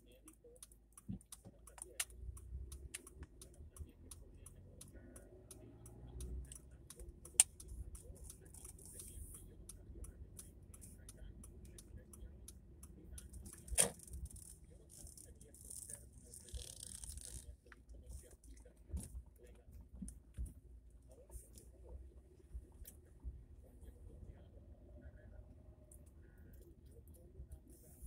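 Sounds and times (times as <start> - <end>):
car rumble from inside cabin: 0.0 - 28.0.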